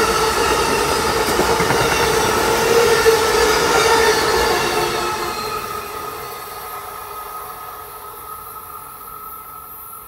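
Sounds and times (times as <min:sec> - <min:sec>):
train wheel and rail noise: 0:00.0 - 0:10.0.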